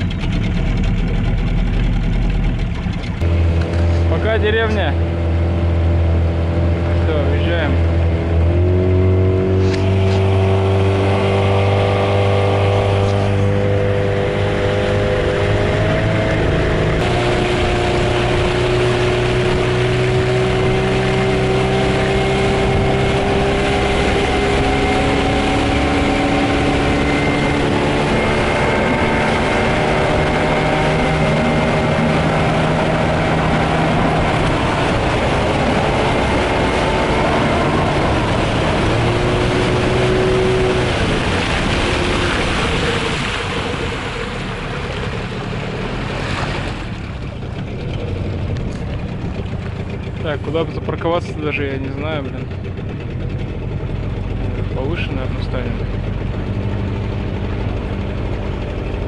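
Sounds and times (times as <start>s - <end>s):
outboard motor running: 0.0s - 59.0s
wake rushing along hull: 0.0s - 59.0s.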